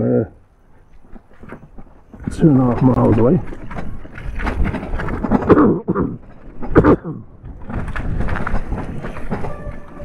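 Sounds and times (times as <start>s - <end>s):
bike tyre rumble: 0.8s - 10.0s
wind buffeting microphone: 0.8s - 10.0s.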